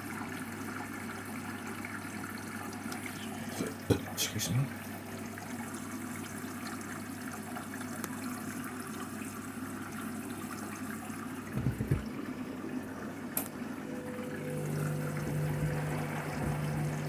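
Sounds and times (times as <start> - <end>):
water rushing into washing machine: 0.0 - 17.0.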